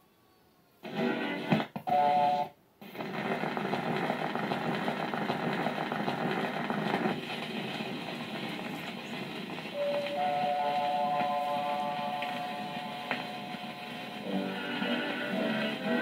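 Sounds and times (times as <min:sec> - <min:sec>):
jazz dance band recording: 0:00.8 - 0:16.0
record crackle and hiss: 0:00.8 - 0:16.0.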